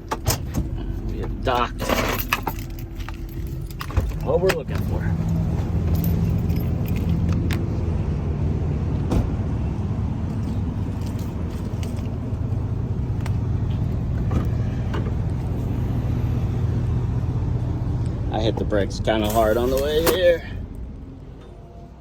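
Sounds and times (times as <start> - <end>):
vehicle engine running: 0.4 - 22.0.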